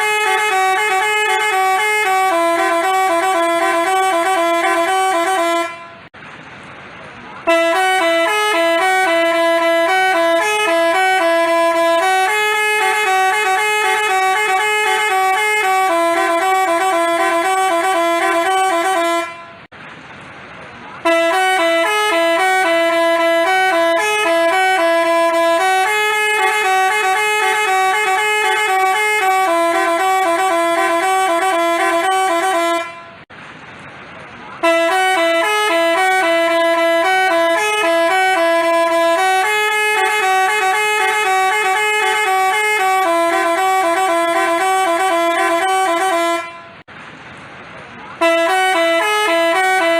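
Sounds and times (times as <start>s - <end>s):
musical bus air horn tune: 0.0s - 6.2s, 7.4s - 19.7s, 21.0s - 33.3s, 34.6s - 46.9s, 48.2s - 49.9s.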